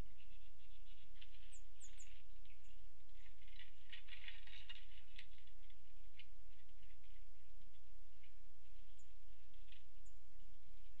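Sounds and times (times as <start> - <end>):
low electrical hum: 0.0 - 11.0
woodpeckers pecking wire feeder: 0.0 - 11.0.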